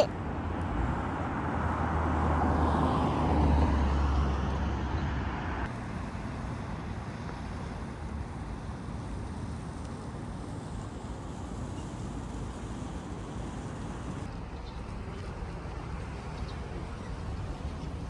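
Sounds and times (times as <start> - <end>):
steady street hum: 0.0 - 18.0.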